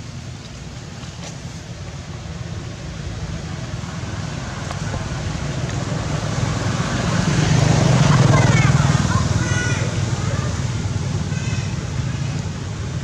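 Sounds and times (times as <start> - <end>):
vehicle engine rumble approaching: 0.0 - 13.0.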